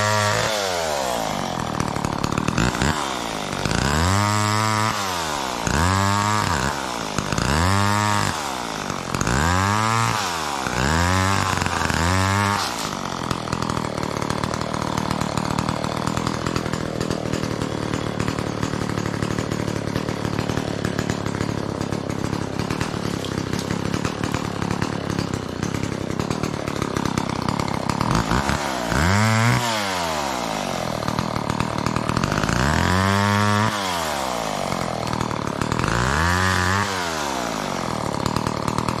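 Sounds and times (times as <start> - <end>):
chainsaw revving and idling: 0.0 - 39.0.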